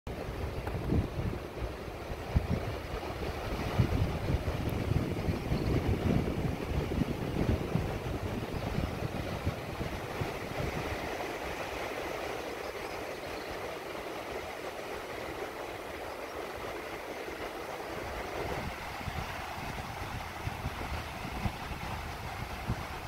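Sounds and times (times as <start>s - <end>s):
wind buffeting microphone: 0.1s - 23.0s
surf washing onto shore: 0.2s - 23.0s.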